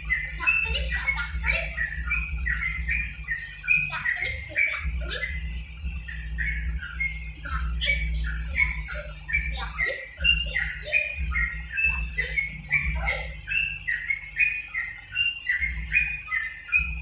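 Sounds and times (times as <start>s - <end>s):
bird song with chirped notes: 0.0s - 17.0s.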